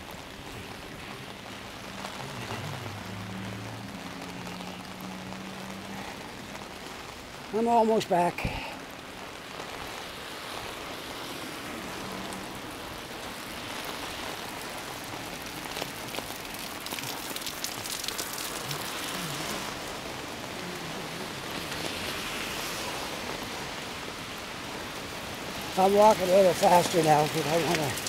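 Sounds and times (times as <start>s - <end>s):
heavy rain falling: 0.0s - 28.0s
raindrops ticking close by: 0.0s - 28.0s.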